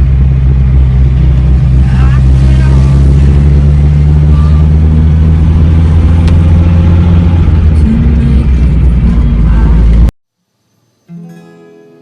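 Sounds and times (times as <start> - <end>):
car engine running loudly: 0.0 - 10.1.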